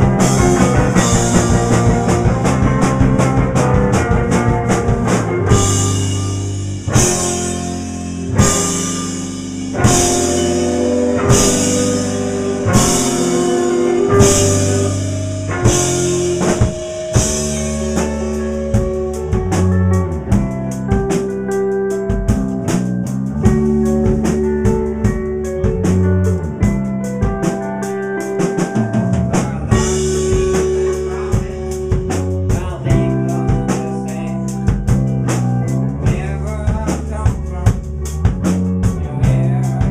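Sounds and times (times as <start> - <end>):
live rock band: 0.0 - 39.9.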